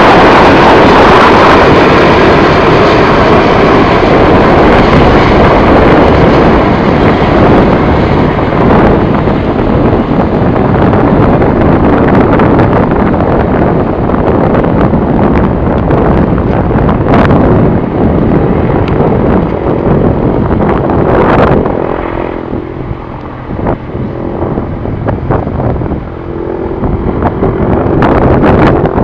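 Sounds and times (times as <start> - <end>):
helicopter rotor and turbine noise: 0.0 - 29.0
wind buffeting microphone: 0.0 - 29.0.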